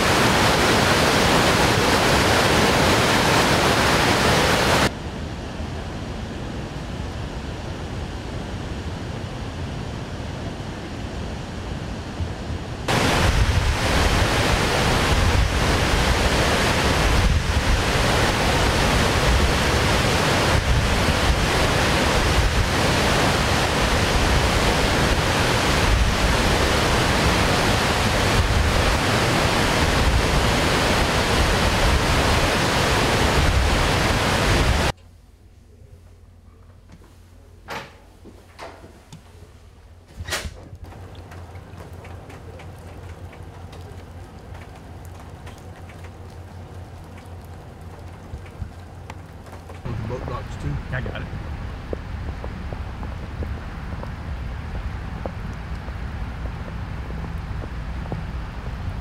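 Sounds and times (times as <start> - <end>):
water roaring through spillway: 0.0 - 35.0, 40.8 - 59.0
wind noise: 0.0 - 35.0, 40.1 - 59.0.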